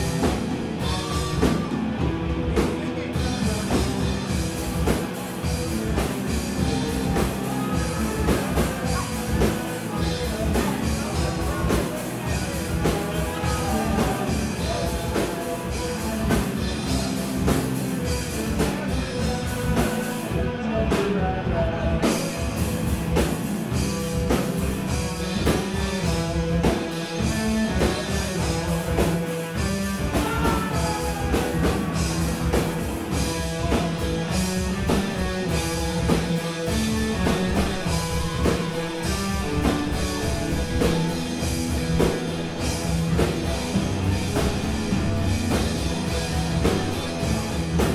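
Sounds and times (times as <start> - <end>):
distorted electric guitar: 0.0 - 47.9
drum kit: 0.0 - 47.9.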